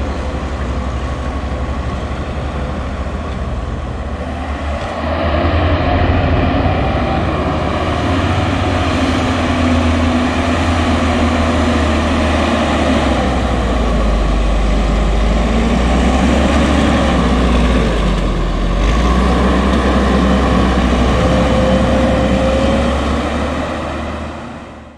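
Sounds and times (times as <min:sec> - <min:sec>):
diesel engine drone under load: 0:00.0 - 0:24.9.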